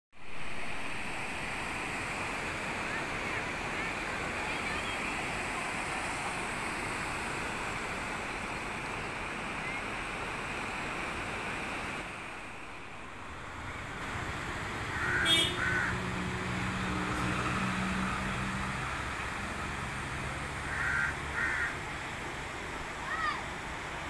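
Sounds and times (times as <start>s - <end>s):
river rushing over stones: 0.2s - 24.0s.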